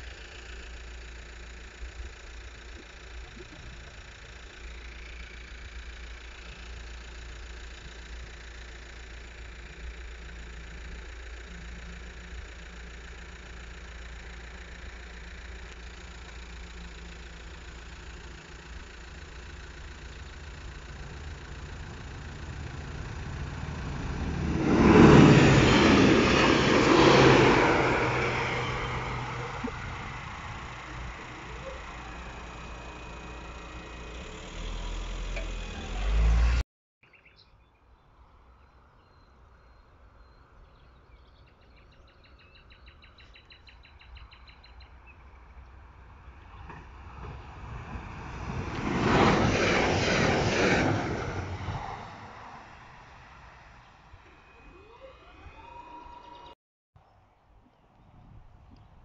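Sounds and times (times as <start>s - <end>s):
diesel rail machine passing: 0.0s - 36.6s, 43.8s - 56.6s
wheels on rails: 0.0s - 36.6s, 44.0s - 56.6s.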